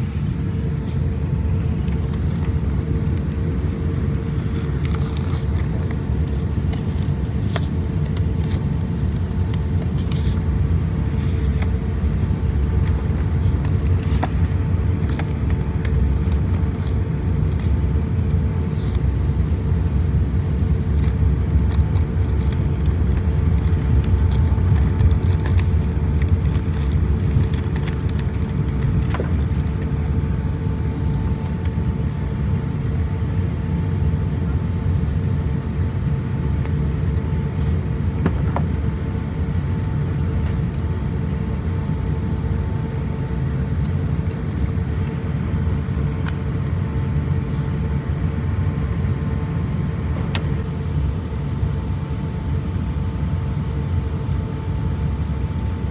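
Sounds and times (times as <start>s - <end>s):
airliner cabin rumble: 0.0s - 55.8s
steady hum: 0.0s - 55.9s.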